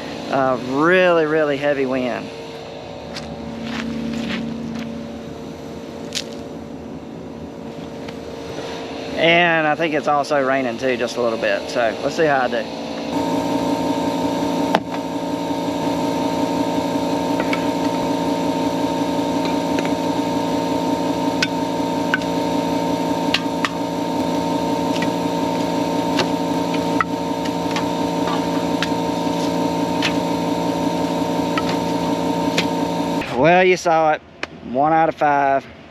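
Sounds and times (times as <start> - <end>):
machine hum: 0.0 - 33.5.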